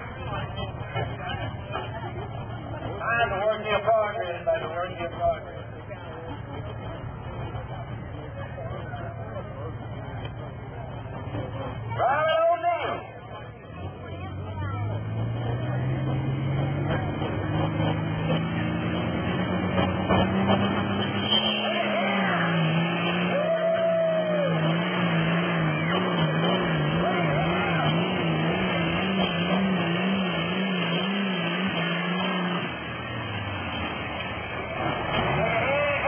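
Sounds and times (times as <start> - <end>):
tractor diesel engine at full throttle: 0.0 - 36.0.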